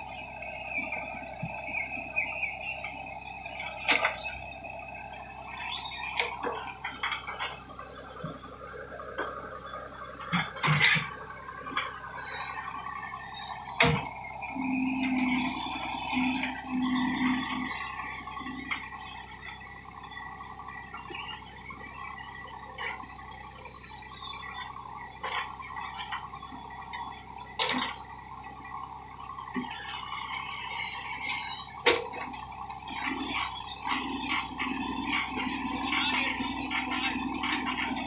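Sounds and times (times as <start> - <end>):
backhoe loader whining: 0.0 - 38.0.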